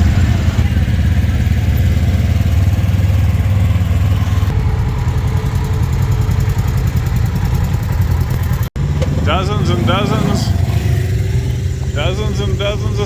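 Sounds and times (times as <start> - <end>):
engines passing by: 0.0 - 13.0.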